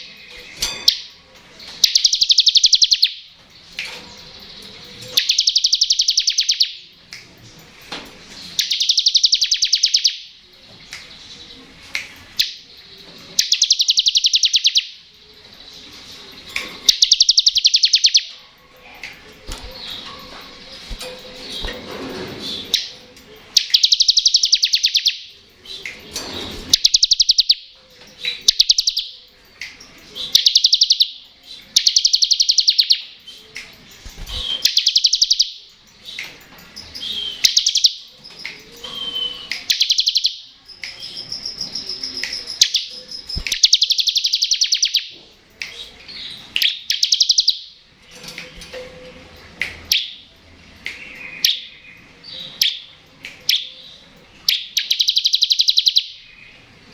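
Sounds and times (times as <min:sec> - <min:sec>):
bird singing rattling trills: 0:00.0 - 0:56.9.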